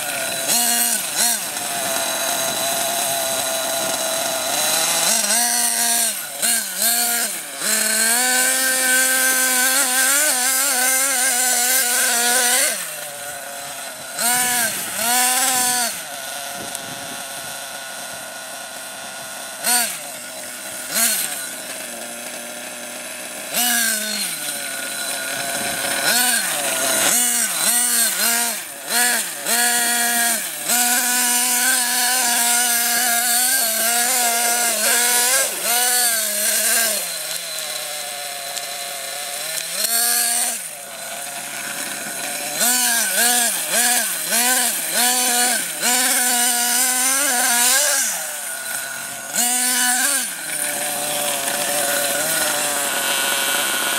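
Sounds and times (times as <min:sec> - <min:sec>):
rc truck engine revving: 0:00.0 - 0:53.9.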